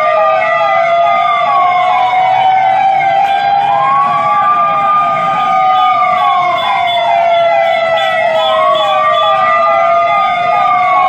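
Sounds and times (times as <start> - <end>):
siren slow wail: 0.0 - 11.0
siren falling sweep: 0.5 - 11.0.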